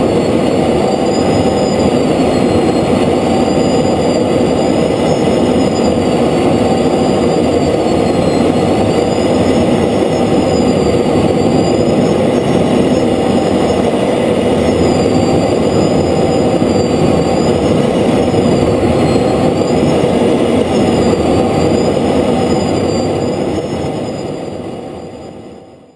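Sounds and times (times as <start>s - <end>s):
high wavering whine: 0.0s - 25.9s
jet engine and airflow rush: 0.0s - 25.9s.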